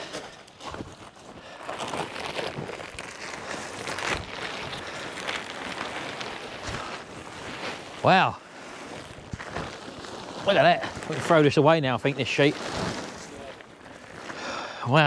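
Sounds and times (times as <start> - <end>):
plastic tarpaulin rustling: 0.0 - 15.0.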